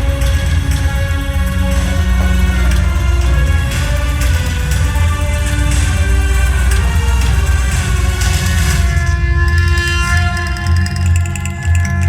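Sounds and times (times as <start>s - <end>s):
loud music with heavy bass: 0.0s - 12.0s.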